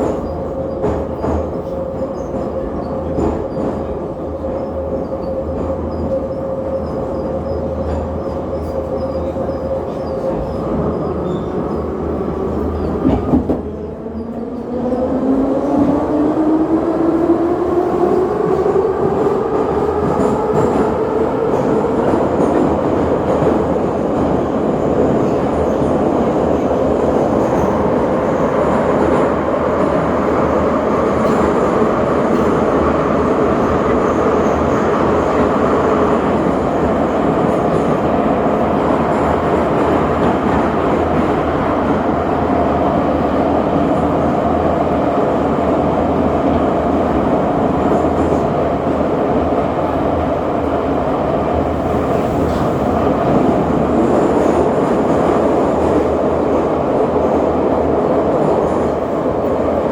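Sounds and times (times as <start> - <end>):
train running on board: 0.0 - 59.9.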